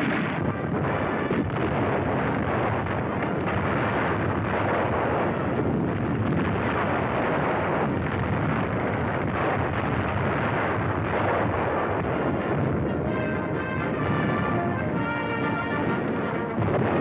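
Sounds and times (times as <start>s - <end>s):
gunfire and explosions: 0.0s - 17.0s.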